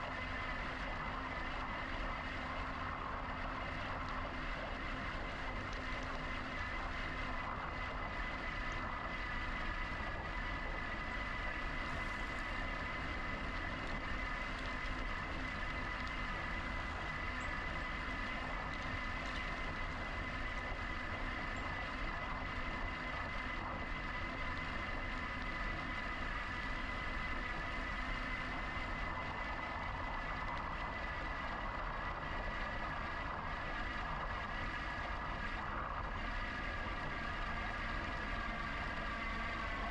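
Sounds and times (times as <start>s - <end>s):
electric motor high whine: 0.0s - 39.9s
wind and tyre noise: 0.0s - 39.9s.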